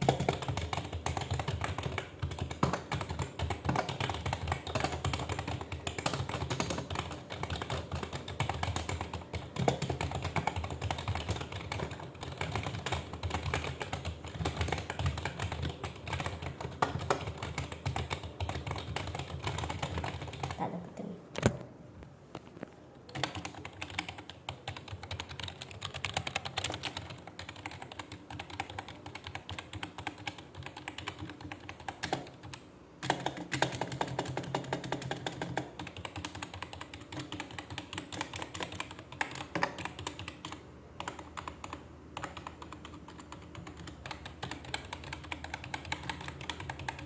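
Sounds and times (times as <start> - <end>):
keyboard typing: 0.0 - 20.8, 22.6 - 47.0.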